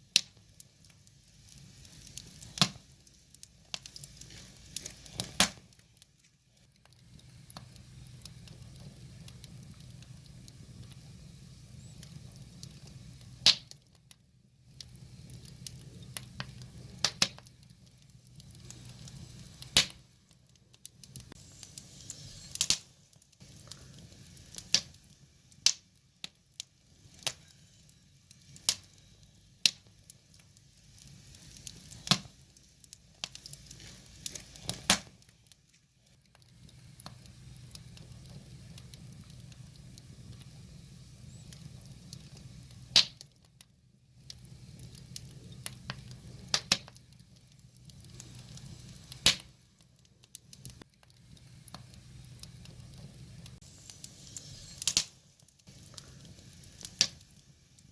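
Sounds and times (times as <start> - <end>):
firewood crackling and popping: 0.0 - 57.9.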